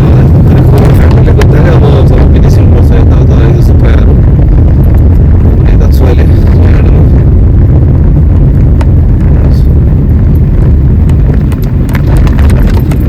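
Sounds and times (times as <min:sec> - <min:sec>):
car driving rumble inside cabin: 0:00.0 - 0:13.0.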